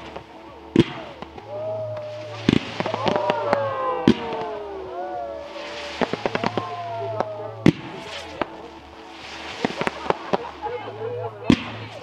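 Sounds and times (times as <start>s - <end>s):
fireworks popping and crackling: 0.0s - 12.0s.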